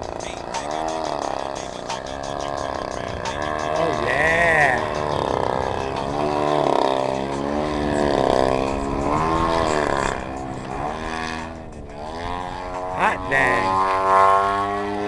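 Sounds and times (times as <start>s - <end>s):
model airplane engine and propeller: 0.0s - 15.0s.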